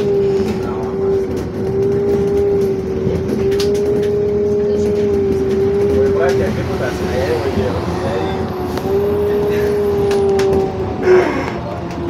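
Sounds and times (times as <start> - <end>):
low rumble of vehicle ride: 0.0 - 12.0.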